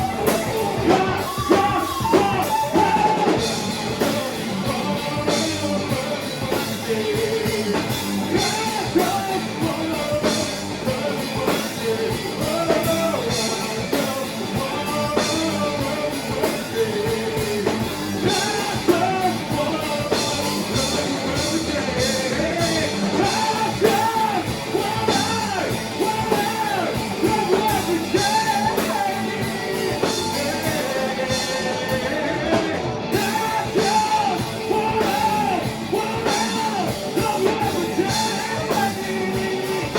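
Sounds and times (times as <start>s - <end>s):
person singing: 0.0s - 39.9s
rock band playing: 0.0s - 39.9s.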